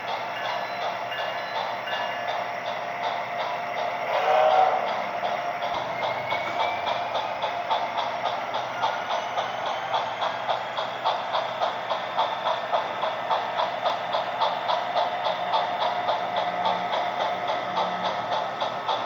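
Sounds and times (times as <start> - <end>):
rhythmic clicking: 0.0 - 19.0.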